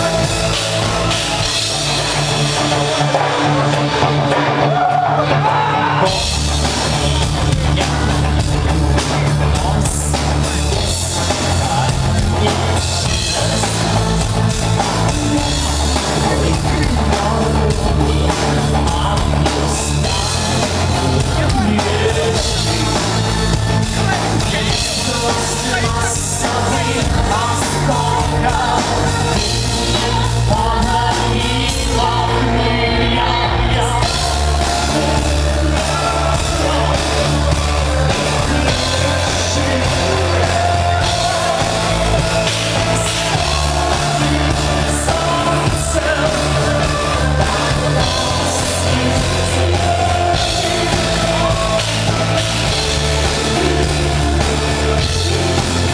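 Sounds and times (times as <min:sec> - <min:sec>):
person singing: 0:00.0 - 0:55.9
rock band playing: 0:00.0 - 0:55.9.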